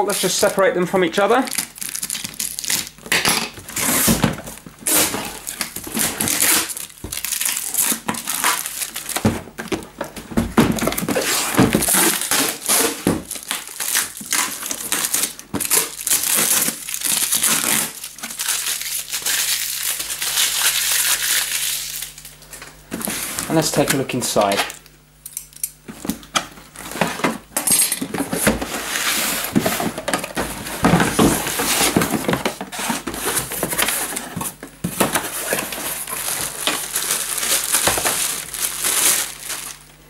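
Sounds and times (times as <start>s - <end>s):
plastic wrap crinkling and tearing: 0.0s - 24.8s, 28.8s - 40.0s.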